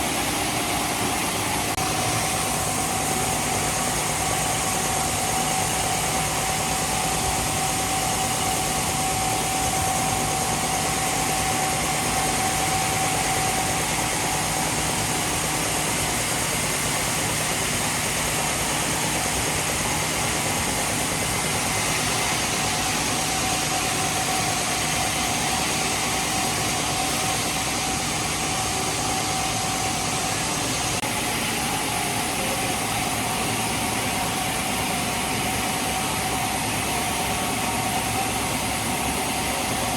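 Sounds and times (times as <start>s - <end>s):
constant whine: 0.0s - 39.9s
heavy machinery running: 0.0s - 39.9s.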